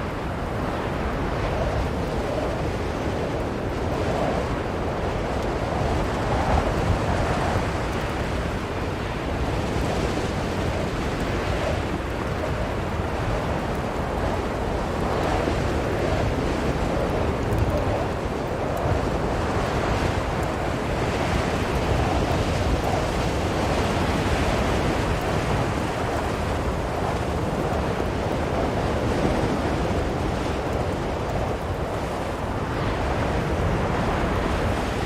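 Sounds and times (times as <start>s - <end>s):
blizzard wind blowing: 0.0s - 35.0s.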